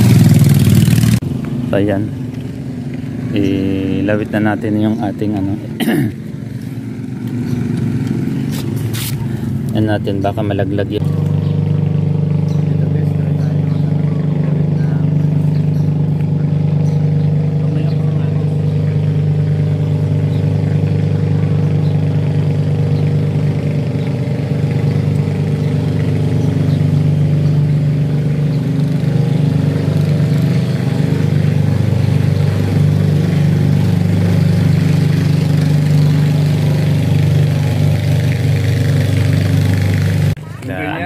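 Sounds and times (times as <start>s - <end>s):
engine droning steadily: 0.0s - 41.0s.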